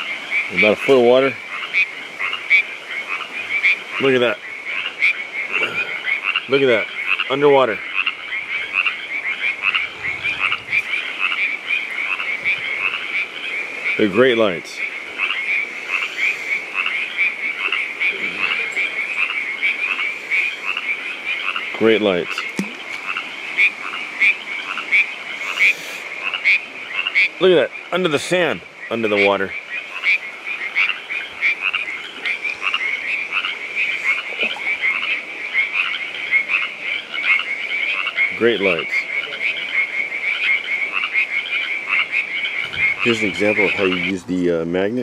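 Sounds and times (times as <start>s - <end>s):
chorus of frogs calling: 0.0s - 45.0s.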